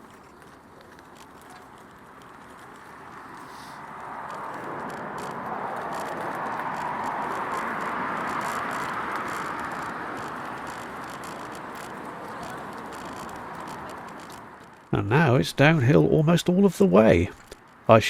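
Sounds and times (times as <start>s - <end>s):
light clicks and rattles: 0.0s - 15.0s
bicycle tyre and road noise: 0.0s - 18.0s.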